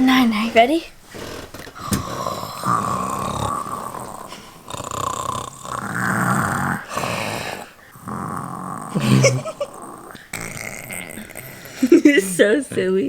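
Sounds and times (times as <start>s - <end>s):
child fake snoring: 1.1s - 13.0s.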